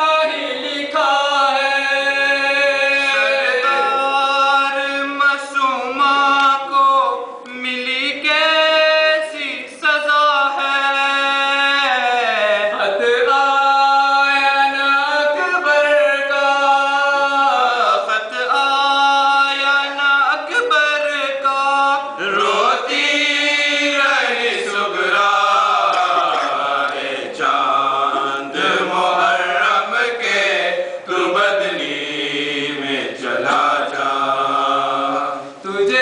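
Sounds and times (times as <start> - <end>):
men chanting a lament: 0.0 - 36.0.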